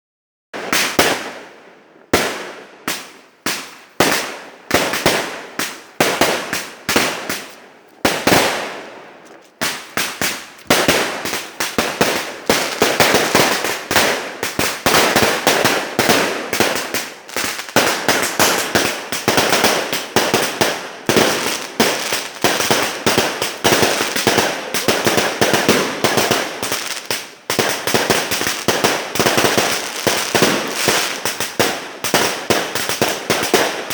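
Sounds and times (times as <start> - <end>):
fireworks banging: 0.6 - 33.9.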